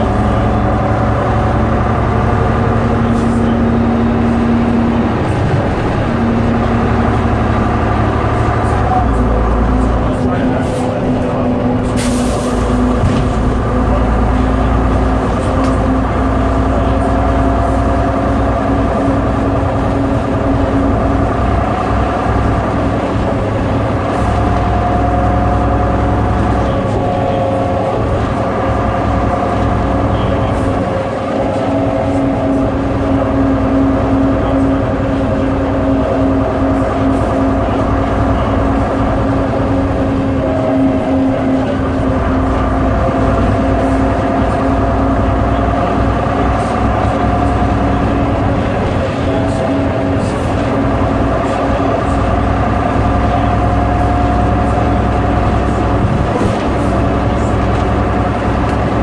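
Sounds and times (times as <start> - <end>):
bus diesel engine rumble and whine: 0.0 - 59.0.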